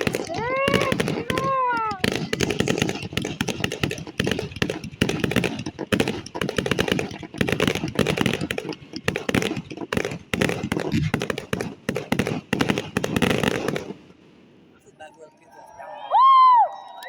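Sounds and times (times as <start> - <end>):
fireworks crackling and popping: 0.0 - 15.3.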